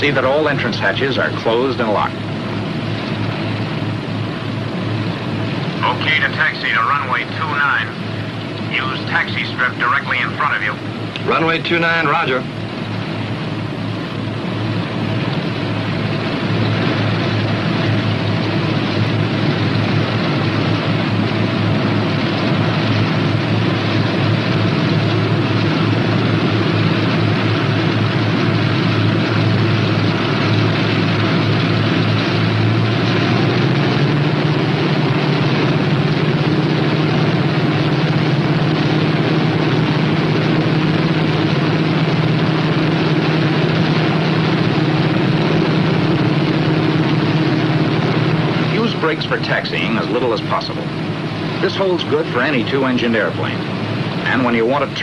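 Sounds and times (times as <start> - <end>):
propeller engines droning: 0.0 - 55.0.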